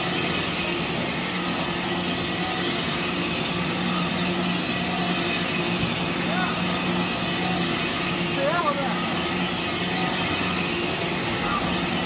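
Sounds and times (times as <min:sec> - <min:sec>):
polishing machine motor hum: 0:00.0 - 0:12.0.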